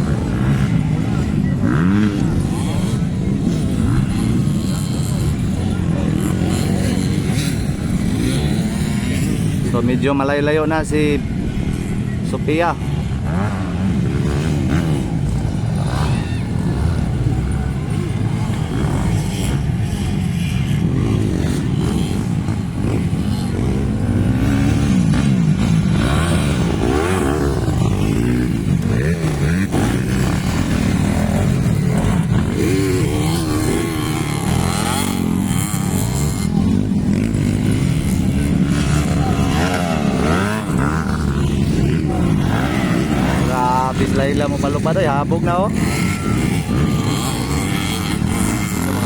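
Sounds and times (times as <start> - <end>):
motocross bikes revving: 0.0 - 49.0.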